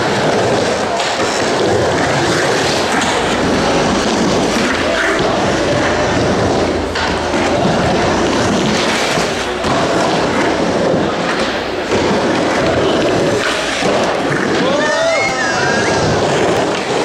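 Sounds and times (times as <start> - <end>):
skateboard rolling on plywood: 0.0 - 17.0.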